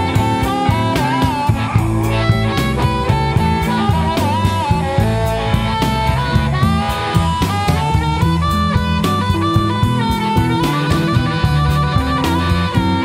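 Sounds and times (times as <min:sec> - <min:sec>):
bending harmonica lead: 0:00.0 - 0:13.0
blues band playing: 0:00.0 - 0:13.0.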